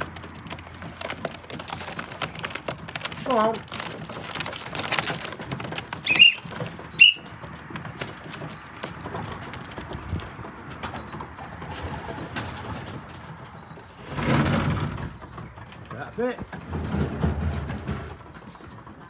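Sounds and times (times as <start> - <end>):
pigeons cooing: 0.0 - 15.8, 16.6 - 19.0
rustling noise: 0.0 - 15.9
pigeon wings flapping: 0.0 - 19.0.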